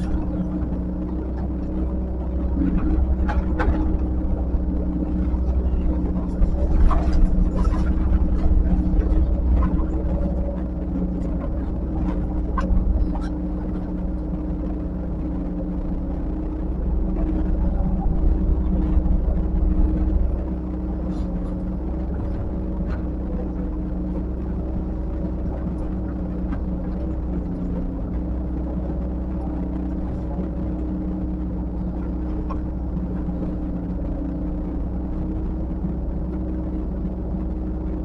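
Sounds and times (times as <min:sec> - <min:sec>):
diesel engine rumbling: 0:00.0 - 0:38.0.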